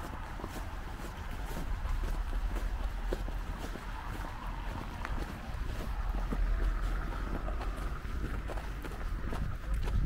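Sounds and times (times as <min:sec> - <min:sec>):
footsteps crunching on snow: 0:00.0 - 0:10.0
wind buffeting microphone: 0:00.0 - 0:10.0.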